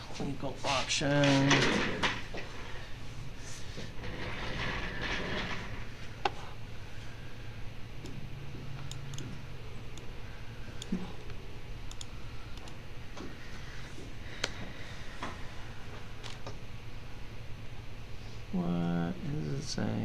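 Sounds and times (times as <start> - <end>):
low hum: 1.5 - 20.0.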